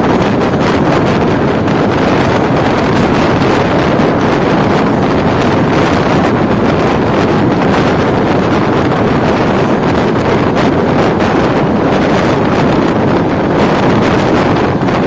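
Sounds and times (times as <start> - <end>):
passenger train rushing past: 0.0 - 15.0
wind buffeting microphone: 0.0 - 15.0.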